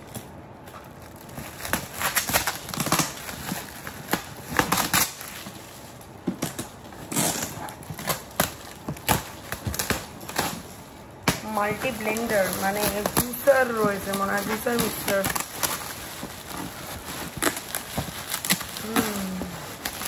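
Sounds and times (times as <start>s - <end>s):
wrapping paper rustling: 0.0s - 20.0s.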